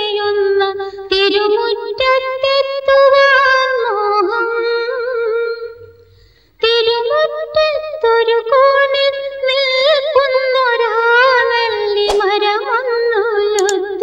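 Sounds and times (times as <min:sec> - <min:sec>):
woman singing slow song: 0:00.0 - 0:14.0.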